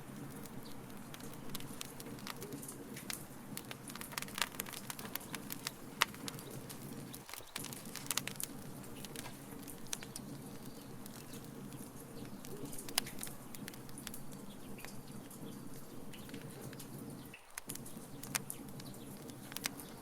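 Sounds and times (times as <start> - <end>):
sharp pops from fire: 0.0 - 20.0
steady low hum: 0.0 - 20.0
wood fire crackling: 0.0 - 20.0.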